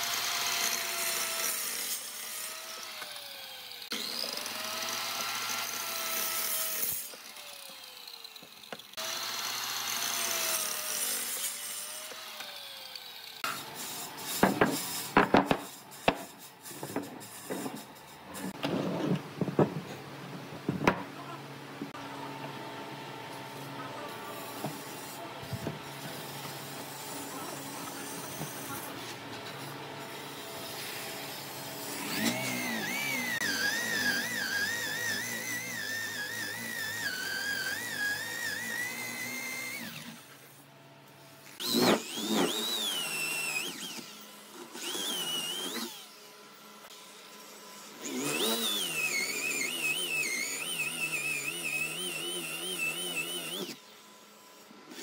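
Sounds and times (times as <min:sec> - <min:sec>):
electric drill boring into wood: 0:00.0 - 0:18.6, 0:24.4 - 0:40.7, 0:41.4 - 0:55.0.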